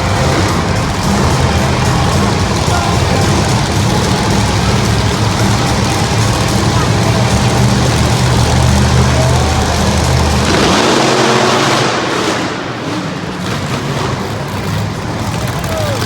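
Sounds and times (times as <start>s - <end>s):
broad rush of noise: 0.0s - 16.0s
monster truck engines running: 0.0s - 16.0s.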